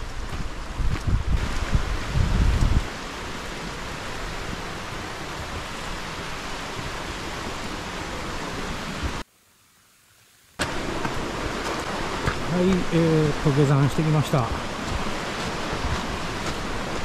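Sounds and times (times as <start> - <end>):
mountain stream rushing: 0.0 - 9.2, 10.6 - 17.0.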